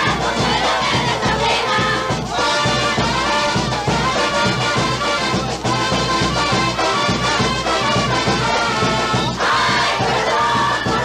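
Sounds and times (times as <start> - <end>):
brass band horns melody: 0.0 - 11.0
steady drum beat: 0.0 - 11.0.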